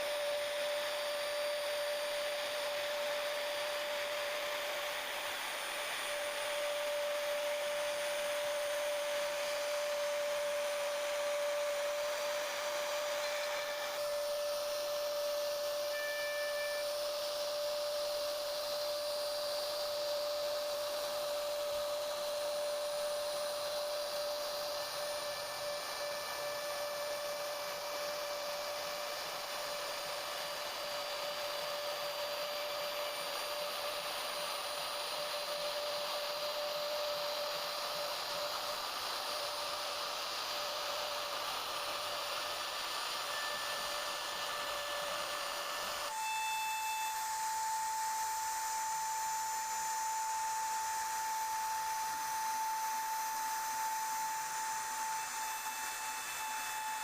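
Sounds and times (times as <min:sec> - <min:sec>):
router spindle whining carving wood: 0:00.0 - 0:57.0.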